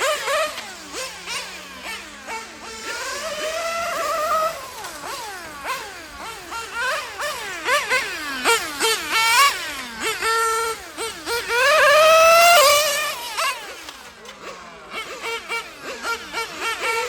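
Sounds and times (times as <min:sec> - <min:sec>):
small engine screaming at high revs: 0:00.0 - 0:17.0.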